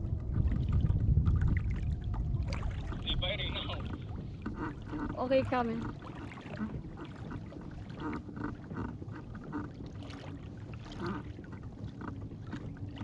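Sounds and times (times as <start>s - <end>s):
choppy water slapping kayak: 0.0s - 13.0s
wind rumbling on microphone: 0.0s - 13.0s.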